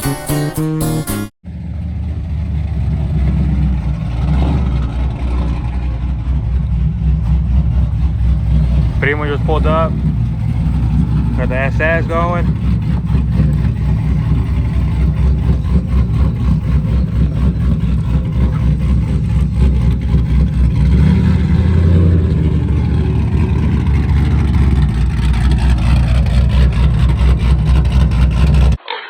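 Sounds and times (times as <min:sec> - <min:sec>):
car engine revving: 0:01.5 - 0:28.8.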